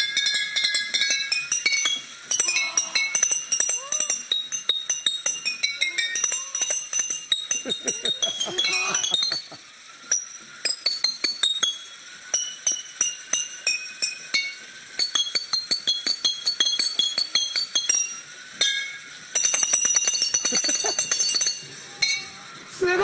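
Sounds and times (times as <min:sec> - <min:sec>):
small chimes struck: 0:00.0 - 0:23.0.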